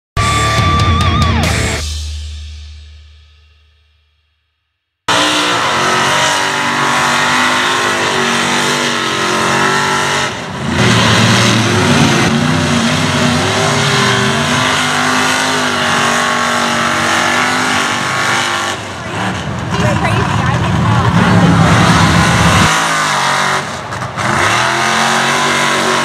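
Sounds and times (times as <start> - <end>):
truck engine revving: 5.1 - 26.0.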